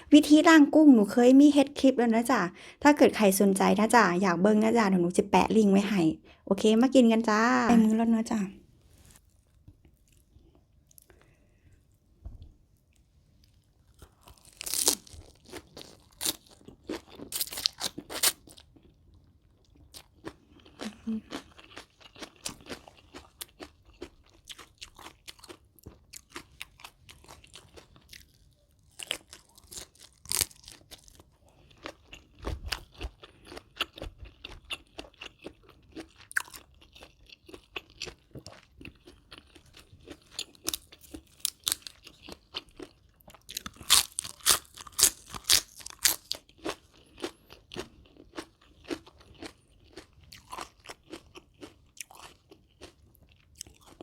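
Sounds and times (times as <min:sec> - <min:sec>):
chewing crunchy food: 0:09.1 - 0:11.4, 0:12.8 - 0:54.0.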